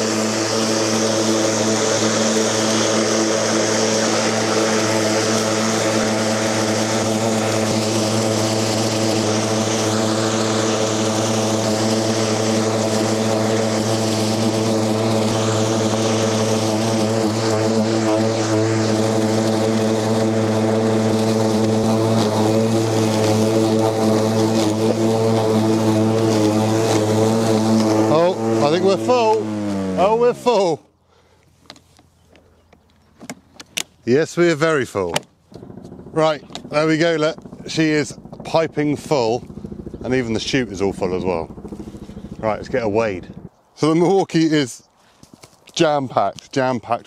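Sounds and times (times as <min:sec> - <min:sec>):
electric lawn mower running: 0:00.0 - 0:32.1, 0:34.6 - 0:43.5.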